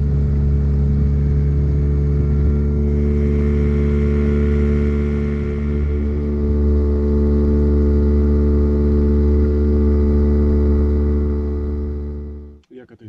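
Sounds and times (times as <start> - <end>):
outboard motor running: 0.0 - 12.6.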